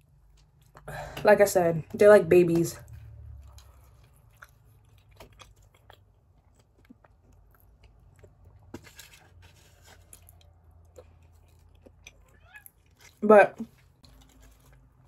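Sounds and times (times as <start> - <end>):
chewing and crunching: 0.0 - 0.9, 2.8 - 15.0.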